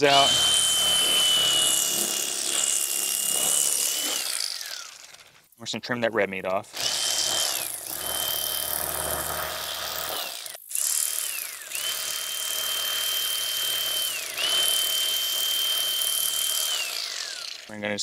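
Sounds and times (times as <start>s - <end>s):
electric knife motor whine: 0.0s - 5.2s, 6.7s - 17.7s.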